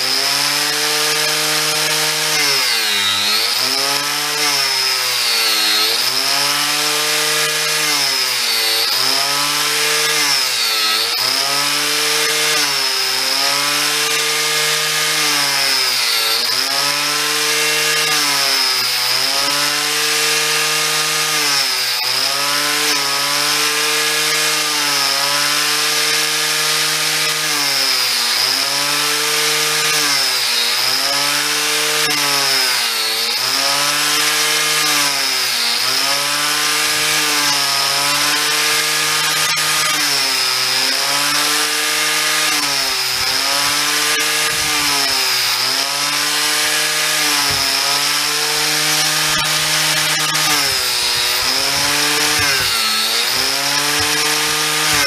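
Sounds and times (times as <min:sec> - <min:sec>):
angle grinder cutting wood: 0:00.0 - 0:55.0.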